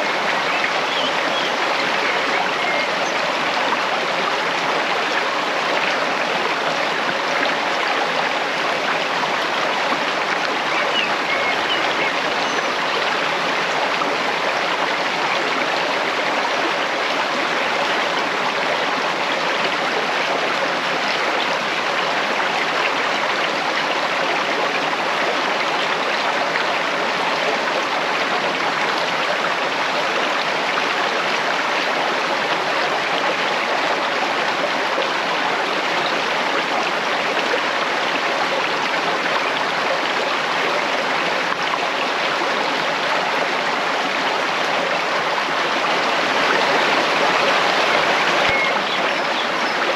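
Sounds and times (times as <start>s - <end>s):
stream flowing: 0.0s - 49.9s.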